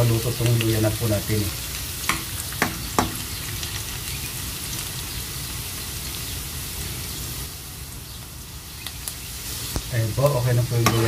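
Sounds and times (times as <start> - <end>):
ginger sizzling in oil: 0.0 - 11.0.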